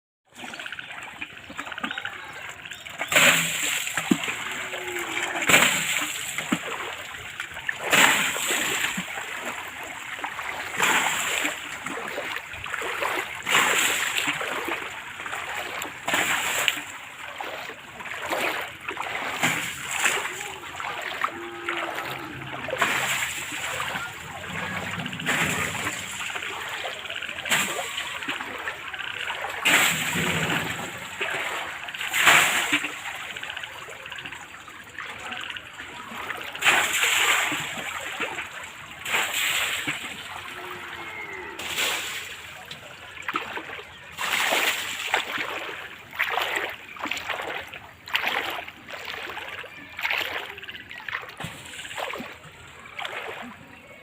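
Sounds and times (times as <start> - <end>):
water splashing and sloshing: 0.3 - 54.0.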